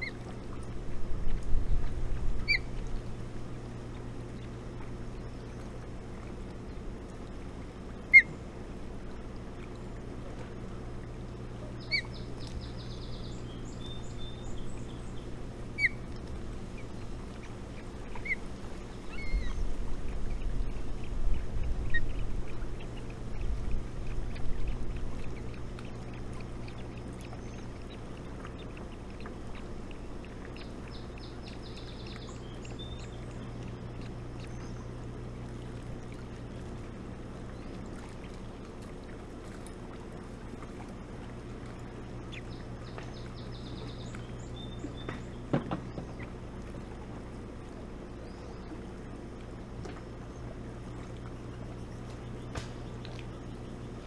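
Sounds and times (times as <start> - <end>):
low rumbling: 0.0 - 54.0
steady low hum: 0.0 - 54.0.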